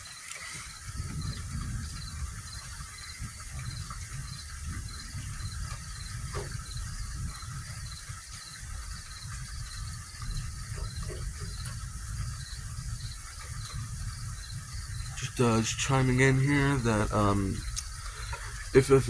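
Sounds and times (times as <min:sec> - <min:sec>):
insects chirping: 0:00.0 - 0:19.0
light rain hiss: 0:00.0 - 0:19.0
microphone low rumble: 0:00.6 - 0:19.0.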